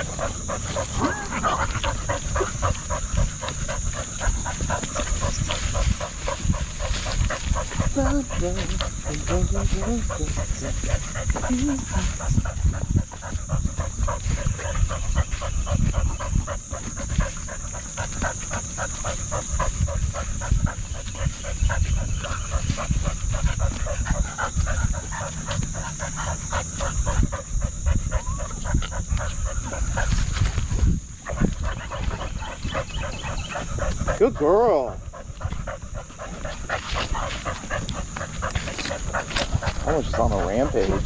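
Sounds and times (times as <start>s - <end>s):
dog panting quickly: 0.0s - 41.0s.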